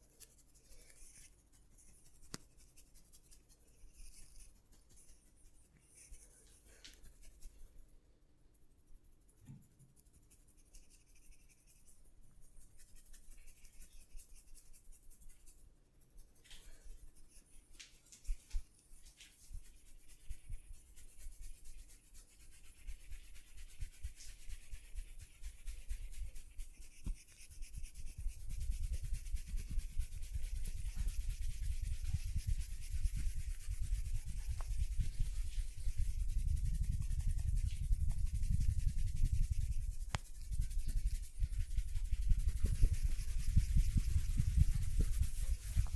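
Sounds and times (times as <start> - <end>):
hands rubbing over skin: 0.0 - 7.8, 8.7 - 45.9.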